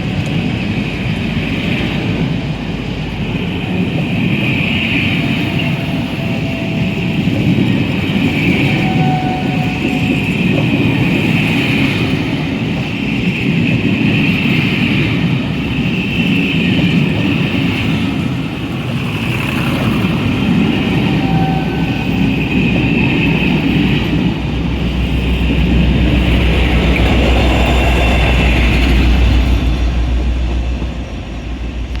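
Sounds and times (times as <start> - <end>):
diesel train rolling past: 0.0 - 32.0.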